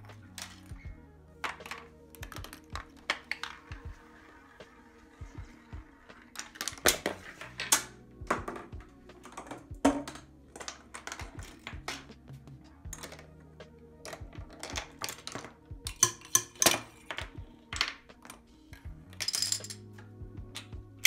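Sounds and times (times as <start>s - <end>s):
parts and balls clattering: 0.0s - 20.8s
faint music: 0.0s - 21.0s.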